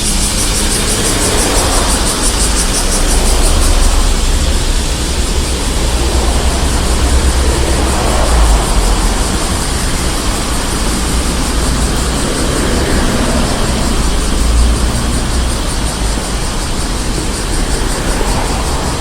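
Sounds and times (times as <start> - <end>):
street traffic rumble: 0.0 - 19.0
vehicles passing close: 0.0 - 19.0.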